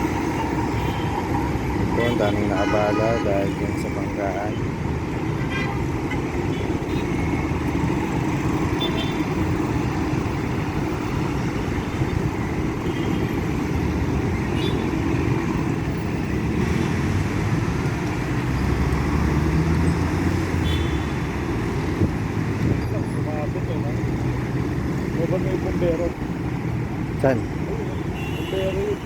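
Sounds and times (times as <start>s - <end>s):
heavy traffic rumble: 0.0s - 29.0s.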